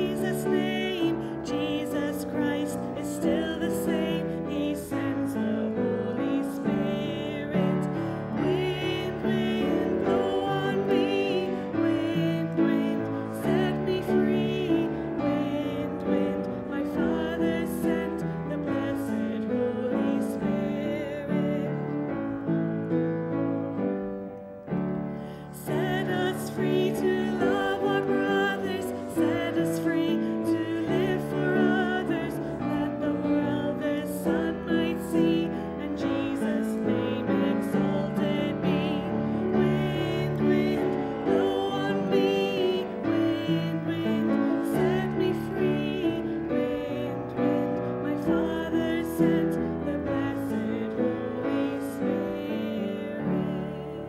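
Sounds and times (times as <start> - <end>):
singing: 0.0 - 21.9, 25.5 - 54.0
hymn on piano: 0.0 - 54.0.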